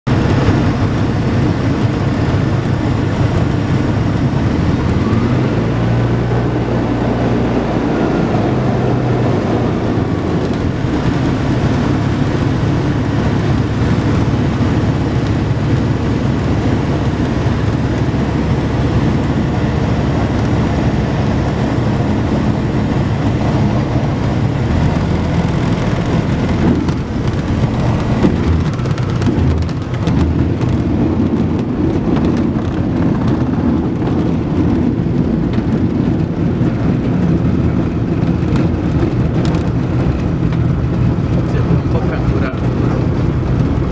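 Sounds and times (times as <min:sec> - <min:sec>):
aircraft engine running: 0:00.1 - 0:43.9
steady airflow noise: 0:00.1 - 0:43.9.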